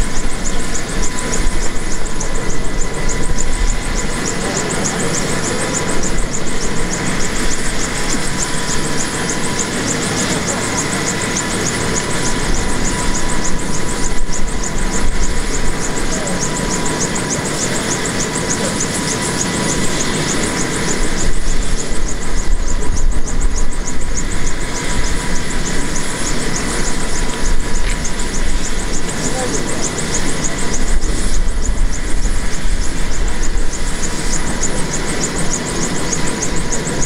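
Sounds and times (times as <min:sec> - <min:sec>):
helicopter turbine whine: 0:00.0 - 0:37.0
rapid rotor ticking: 0:00.0 - 0:37.0.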